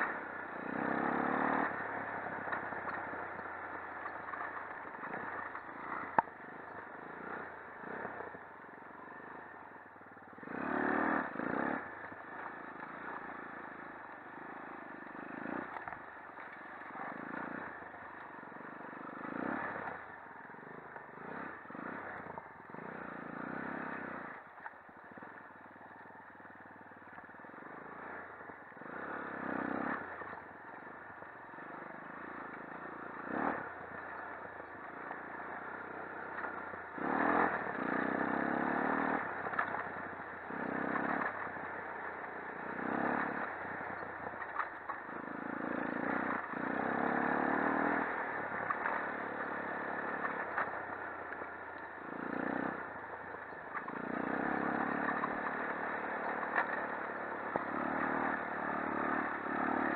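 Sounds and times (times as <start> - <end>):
quad engine revving: 0.0 - 8.4, 10.4 - 13.8, 14.4 - 20.1, 21.1 - 24.4, 28.8 - 30.3, 31.5 - 59.9.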